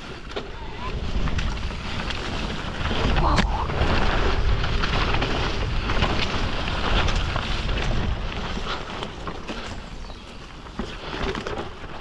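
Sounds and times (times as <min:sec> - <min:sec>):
bike clattering over bumps: 0:00.0 - 0:12.0
tyre rumble on dirt trail: 0:00.0 - 0:12.0
wind buffeting microphone: 0:00.5 - 0:10.8.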